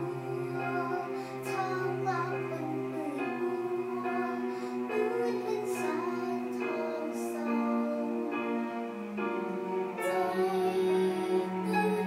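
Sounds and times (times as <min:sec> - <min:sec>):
girl singing slow melody: 0:00.0 - 0:12.0
music: 0:00.0 - 0:12.0.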